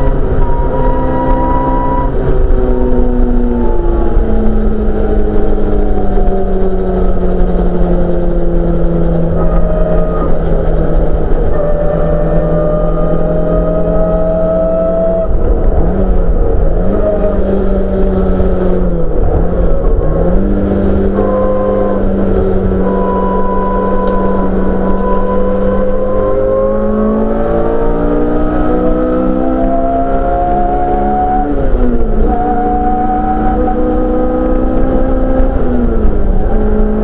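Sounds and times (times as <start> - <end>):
race car engine at high revs: 0.0 - 37.0.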